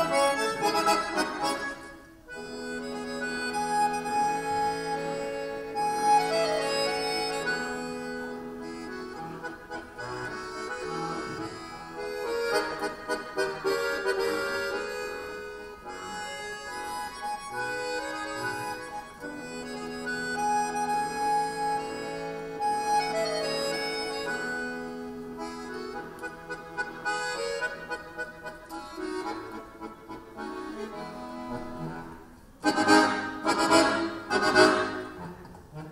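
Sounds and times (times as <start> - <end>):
button accordions playing: 0.0 - 35.9.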